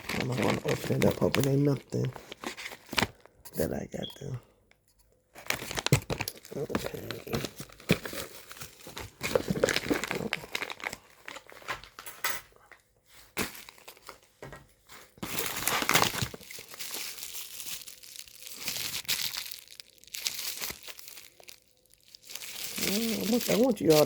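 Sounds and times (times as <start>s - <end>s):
packaging crinkling and rustling: 0.0s - 3.4s, 5.3s - 24.0s.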